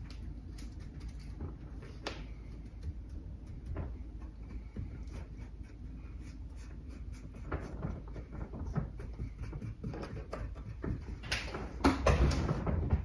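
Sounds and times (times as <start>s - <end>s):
brushing scrape: 0.0s - 11.3s.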